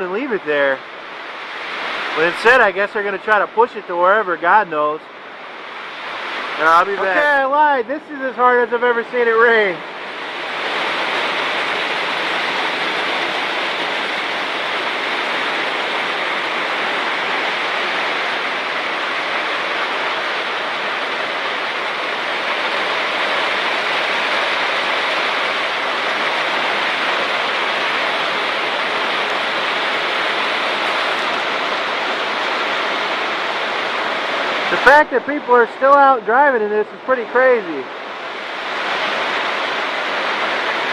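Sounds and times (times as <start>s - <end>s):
torrential rain pouring: 0.0s - 40.9s.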